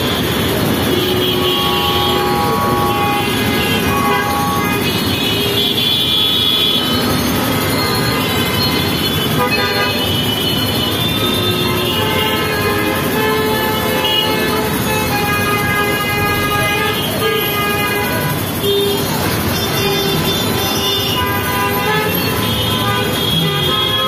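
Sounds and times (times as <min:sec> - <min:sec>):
traffic engine and road noise: 0:00.0 - 0:24.0
vehicle horns honking: 0:00.0 - 0:24.0.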